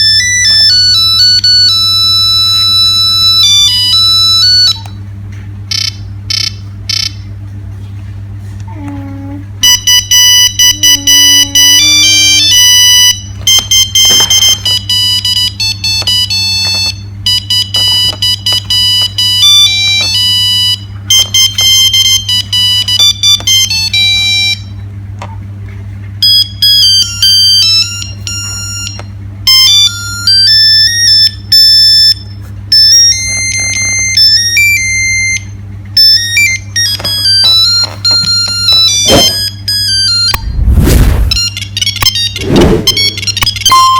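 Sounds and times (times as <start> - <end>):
phone ringtone beep melody: 0.0 - 4.9, 9.6 - 24.7, 26.2 - 40.4, 41.5 - 43.9
low steady hum: 0.0 - 43.9.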